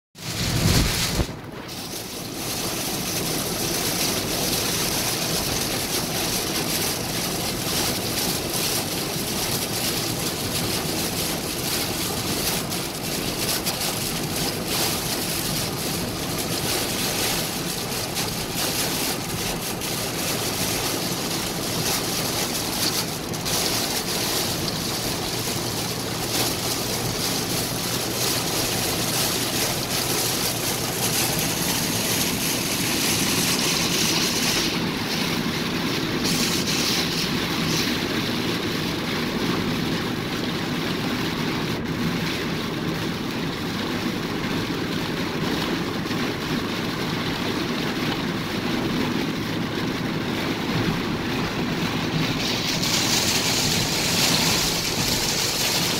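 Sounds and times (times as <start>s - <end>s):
heavy rain on car roof: 0.2s - 55.9s
tyres on wet road: 0.2s - 55.9s.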